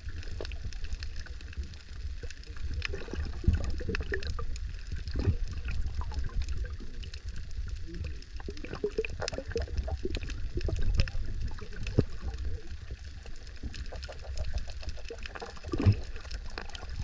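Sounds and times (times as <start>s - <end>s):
bubbling gurgle: 0.0s - 17.0s
underwater clicks and crackles: 0.0s - 17.0s
underwater rumble of moving water: 0.0s - 17.0s.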